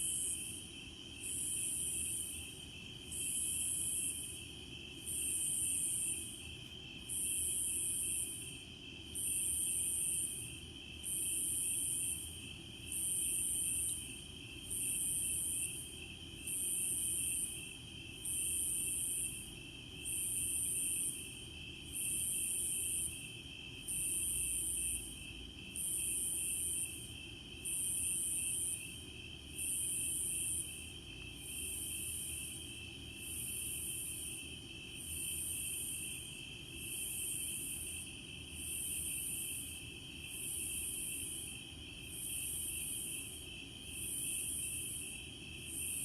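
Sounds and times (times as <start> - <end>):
insects buzzing high-pitched: 0.0 - 46.0
low-pitched insect trill: 0.0 - 46.0.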